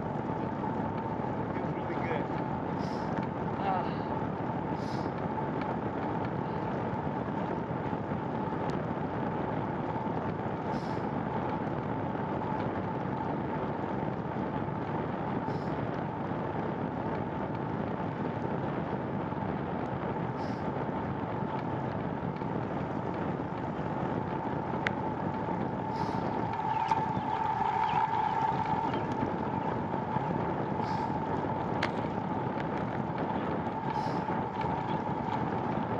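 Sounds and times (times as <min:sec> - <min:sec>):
bicycle rolling on wet trail: 0:00.0 - 0:35.9
faint steady hum: 0:00.0 - 0:35.9
wind on microphone: 0:00.0 - 0:35.9.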